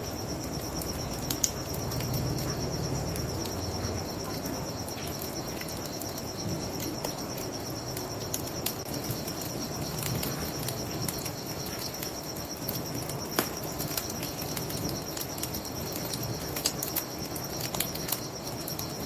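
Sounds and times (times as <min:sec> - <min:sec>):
bonfire crackling: 0:00.0 - 0:19.0
crickets chirping: 0:00.0 - 0:19.0.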